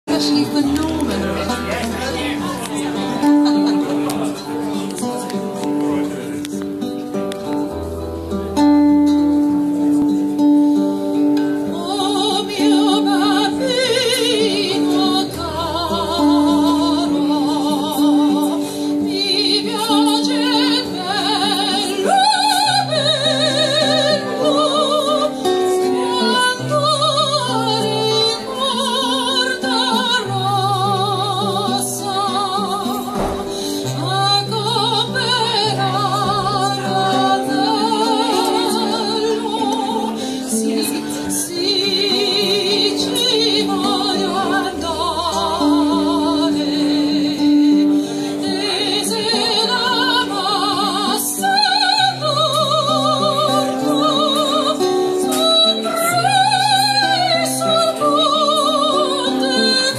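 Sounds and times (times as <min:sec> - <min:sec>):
plucked string instrument: 0:00.0 - 0:59.9.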